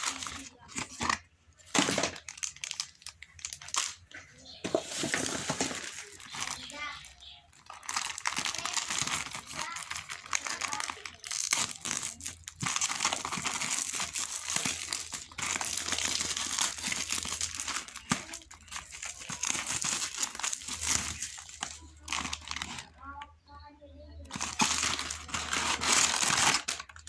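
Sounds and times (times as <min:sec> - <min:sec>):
plastic wrappers crinkling and tearing: 0:00.0 - 0:23.3, 0:24.2 - 0:27.0.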